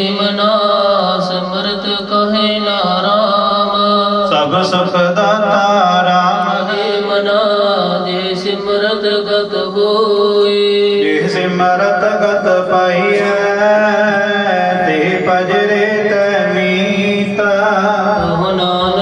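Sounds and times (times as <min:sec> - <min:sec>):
man chanting a hymn: 0:00.0 - 0:19.0
steady held drone: 0:00.0 - 0:19.0.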